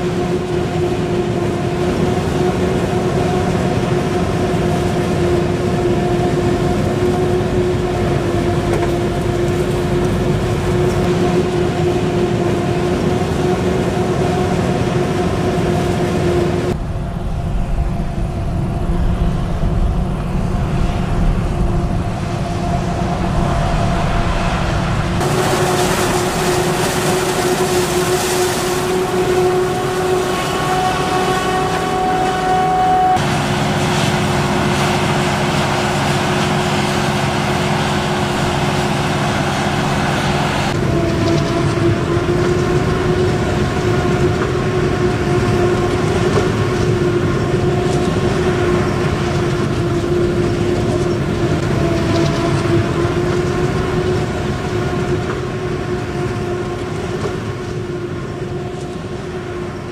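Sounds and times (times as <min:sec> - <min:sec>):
heavy machinery rumble with whine: 0:00.0 - 0:59.9.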